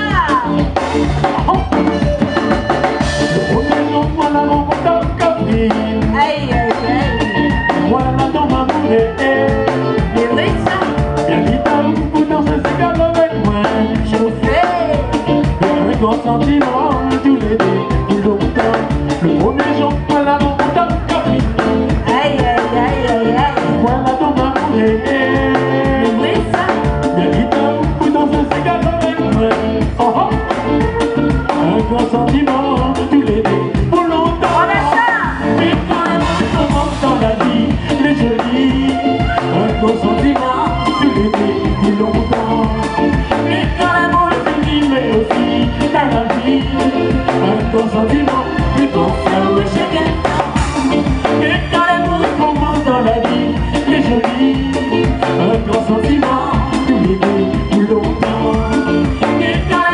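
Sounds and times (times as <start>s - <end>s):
woman singing: 0.0s - 0.8s, 3.4s - 50.6s, 57.7s - 59.9s
bass guitar: 0.0s - 59.9s
drum kit: 0.0s - 59.9s
electric guitar: 0.0s - 59.9s
man singing: 0.0s - 59.9s.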